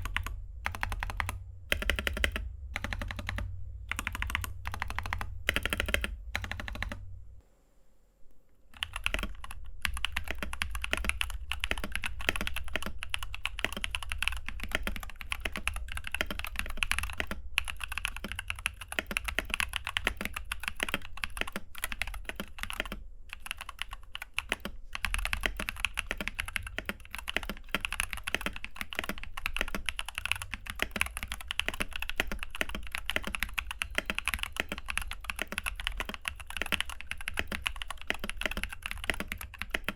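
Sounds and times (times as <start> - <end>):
mechanical keyboard typing: 0.0 - 7.0, 8.8 - 39.9.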